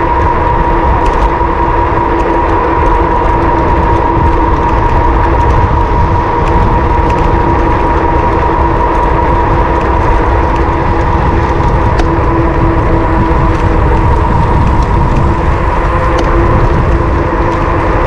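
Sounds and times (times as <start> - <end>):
steady electric motor whine: 0.0 - 18.0
wind on microphone: 0.0 - 18.0.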